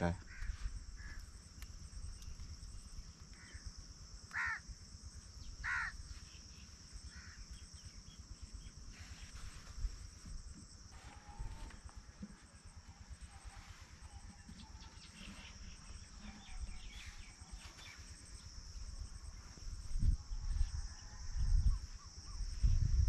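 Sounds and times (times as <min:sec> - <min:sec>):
high insect buzz: 0:00.1 - 0:23.0.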